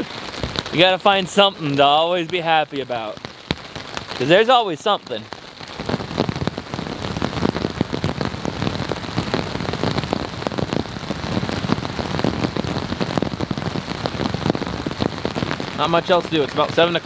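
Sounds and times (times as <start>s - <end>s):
rain on a tarp: 0.0s - 17.0s.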